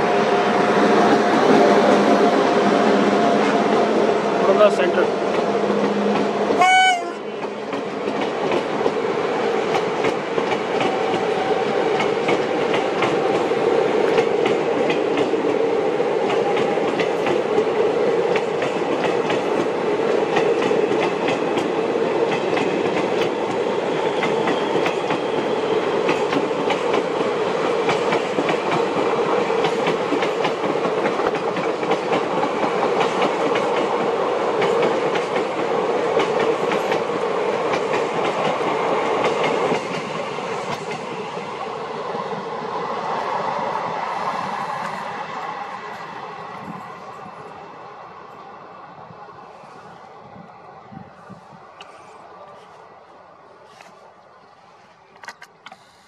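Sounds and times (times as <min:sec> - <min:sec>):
train rumbling past: 0:00.0 - 0:55.2.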